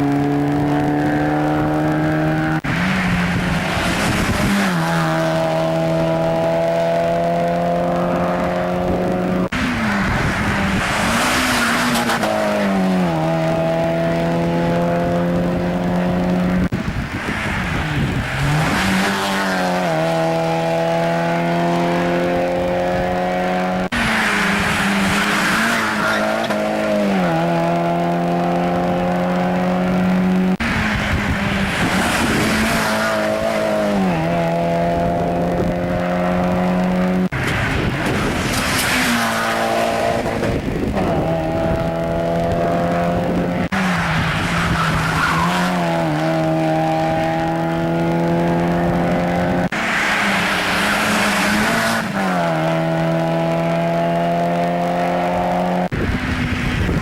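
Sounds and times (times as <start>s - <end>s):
race cars passing: 0.0s - 57.0s.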